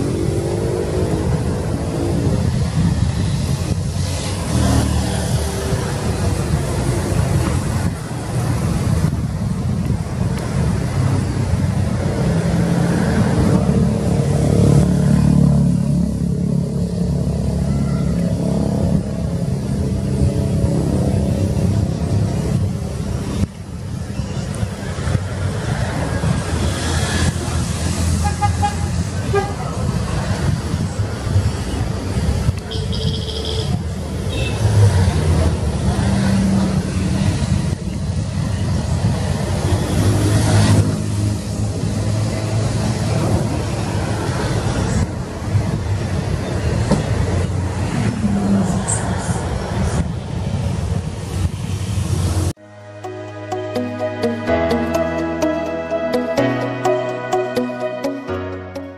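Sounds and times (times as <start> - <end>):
wind on microphone: 0.0 - 52.6.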